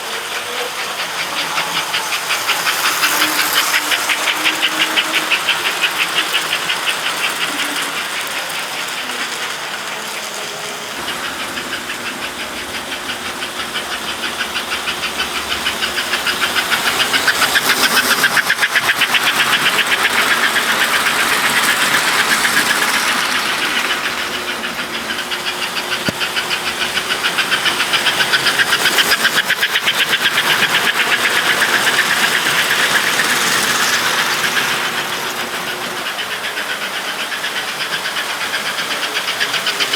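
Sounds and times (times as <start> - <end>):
model trains clattering on track: 0.0 - 39.9.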